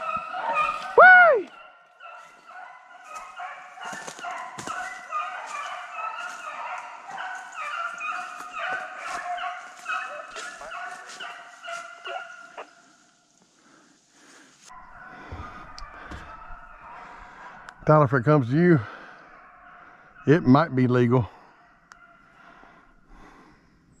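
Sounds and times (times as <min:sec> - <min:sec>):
hounds baying and yelping: 0:00.0 - 0:24.0.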